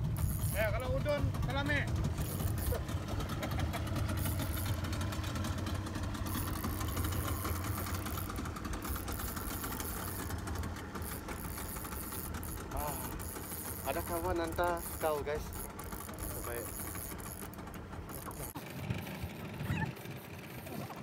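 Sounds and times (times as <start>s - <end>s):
fine mechanical ticking: 0.0s - 20.7s
boat engine idling: 0.0s - 21.0s.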